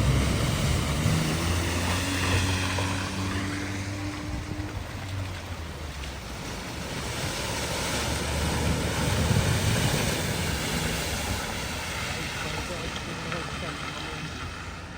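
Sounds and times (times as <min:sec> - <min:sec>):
vehicle engine hum: 0:00.0 - 0:14.9
water splashing: 0:00.0 - 0:14.9.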